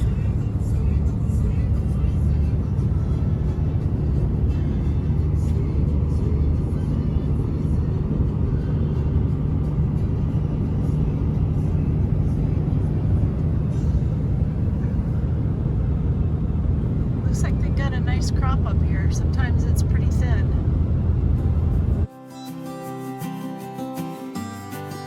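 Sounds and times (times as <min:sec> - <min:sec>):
road and engine drone in vehicle: 0:00.0 - 0:22.1.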